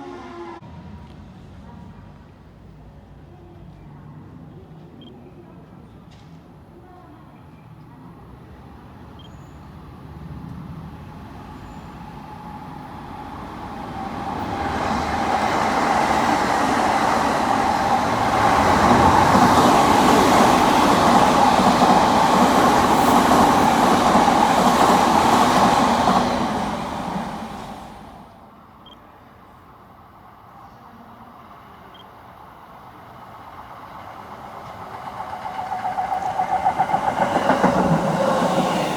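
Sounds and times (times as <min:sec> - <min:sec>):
electric train running past: 0:00.0 - 0:02.2, 0:08.2 - 0:38.9.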